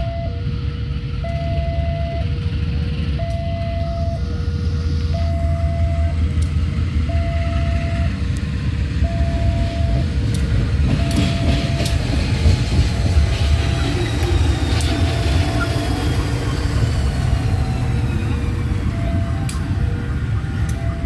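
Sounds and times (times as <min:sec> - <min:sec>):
locomotive engine rumble: 0:00.0 - 0:21.0.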